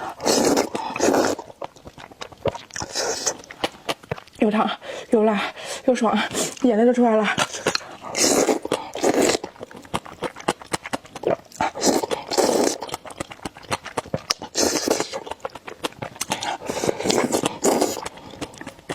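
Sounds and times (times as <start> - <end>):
person slurping noodle soup: 0.0 - 4.0, 7.3 - 18.9
chewing: 0.0 - 4.9, 6.1 - 18.9.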